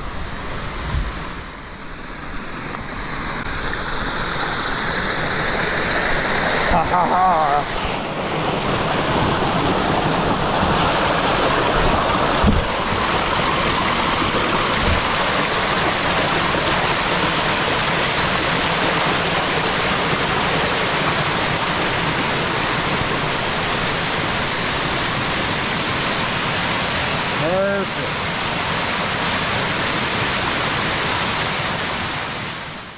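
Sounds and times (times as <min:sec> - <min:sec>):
water gushing from pipe: 0:03.2 - 0:32.5.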